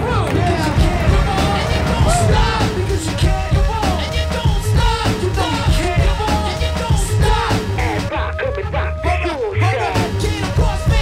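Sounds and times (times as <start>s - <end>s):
song with lead vocal: 0.0s - 11.0s.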